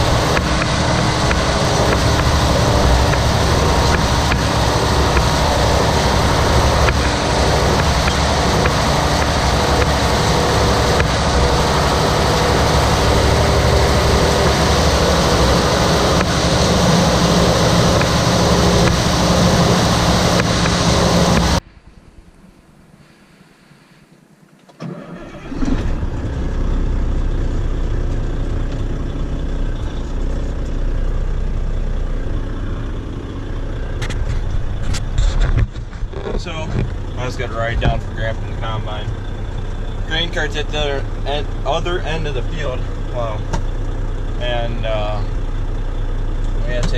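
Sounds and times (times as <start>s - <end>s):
heavy farm vehicle engine running: 0.0s - 21.8s, 24.8s - 46.9s
low rumbling engine: 0.0s - 46.9s.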